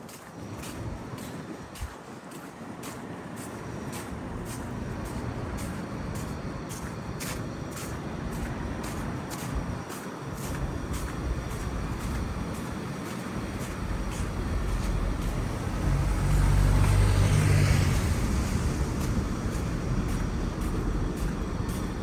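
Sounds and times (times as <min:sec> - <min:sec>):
city road traffic rumble: 0:00.0 - 0:22.0
footsteps crunching on snow: 0:00.0 - 0:22.0.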